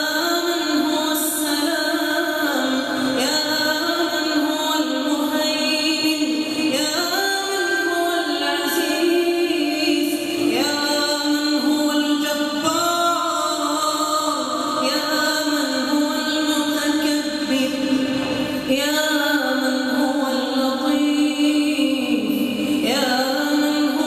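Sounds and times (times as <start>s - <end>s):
person chanting prayer recitation: 0.0s - 24.0s.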